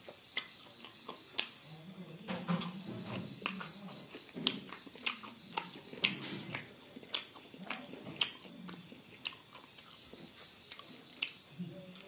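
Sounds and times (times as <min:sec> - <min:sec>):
person chewing meat: 0:00.0 - 0:12.0.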